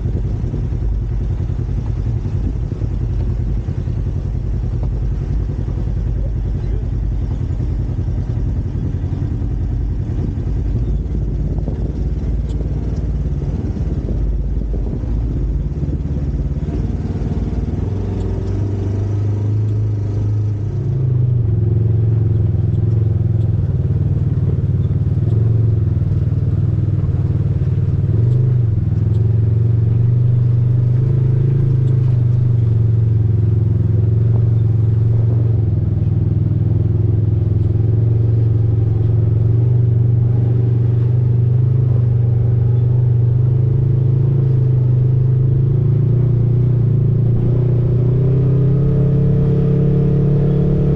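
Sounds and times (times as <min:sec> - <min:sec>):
off-road vehicle engine driving: 0:00.0 - 0:50.9.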